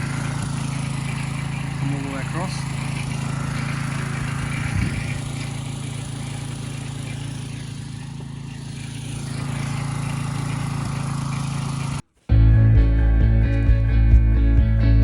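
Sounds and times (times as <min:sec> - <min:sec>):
motor droning: 0:00.0 - 0:14.4.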